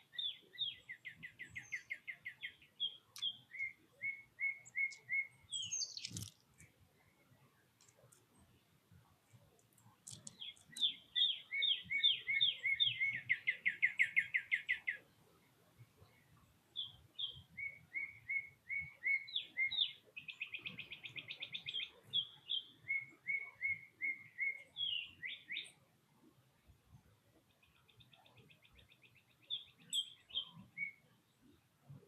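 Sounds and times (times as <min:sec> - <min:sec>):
songbird singing trills: 0:00.0 - 0:08.6, 0:09.5 - 0:15.2, 0:16.0 - 0:25.8, 0:27.4 - 0:32.0.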